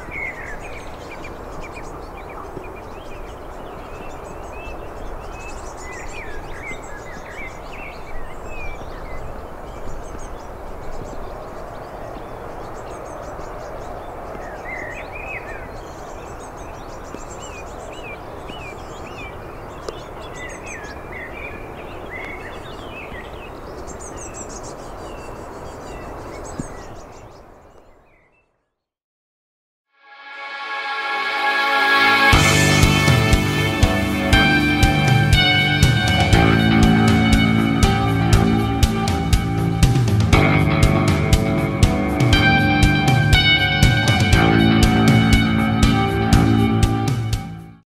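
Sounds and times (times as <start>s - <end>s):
small birds chirping: 0.0s - 28.9s, 32.3s - 47.2s.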